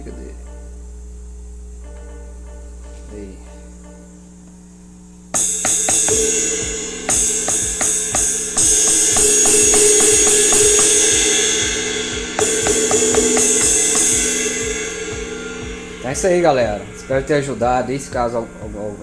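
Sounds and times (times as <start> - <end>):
electronic drum cymbal hits: 0.0 - 19.0.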